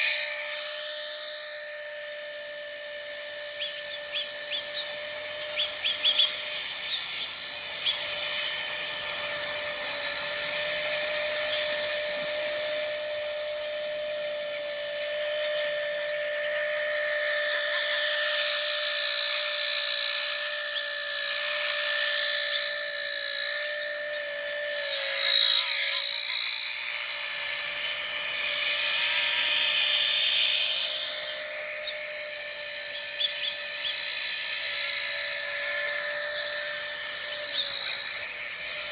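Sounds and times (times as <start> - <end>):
small helicopter motor whine: 0.0 - 38.9.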